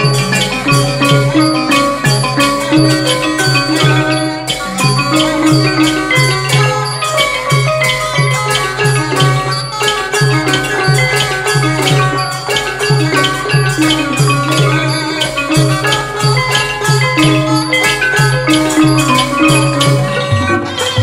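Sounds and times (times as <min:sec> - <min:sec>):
xylophone and gong ensemble: 0:00.0 - 0:21.0.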